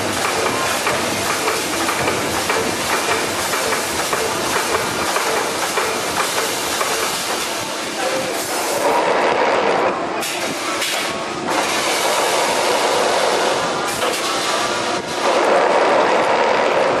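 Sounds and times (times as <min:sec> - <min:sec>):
welding machine rapid clatter: 0:00.0 - 0:17.0.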